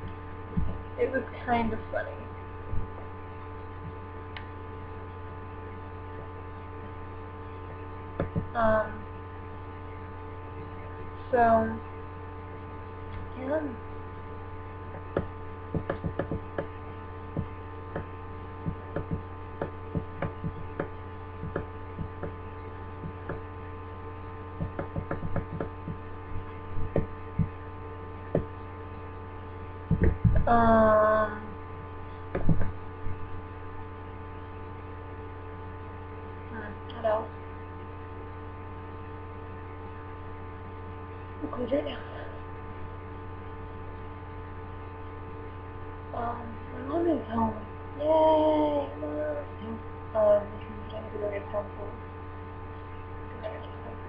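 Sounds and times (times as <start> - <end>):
electrical hum: 0.0 - 54.0
whining tones: 0.0 - 54.0.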